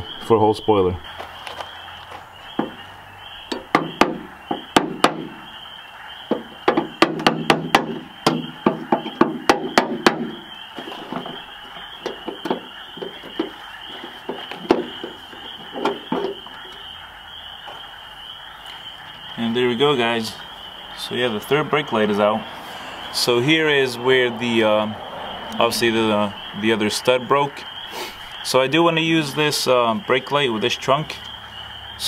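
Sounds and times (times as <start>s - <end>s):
frogs chorus: 0.0s - 32.0s.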